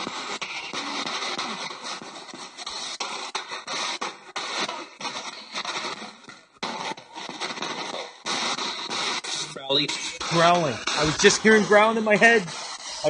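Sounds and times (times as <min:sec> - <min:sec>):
static hiss with crackles: 0:00.0 - 0:13.0.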